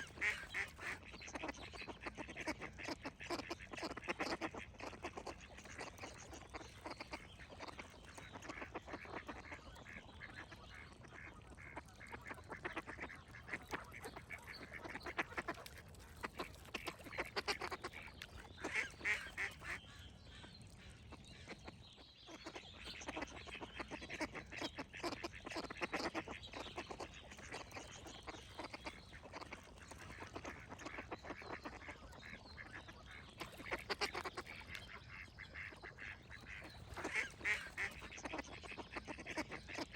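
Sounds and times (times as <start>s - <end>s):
flock of ducks quacking: 0.0s - 39.9s.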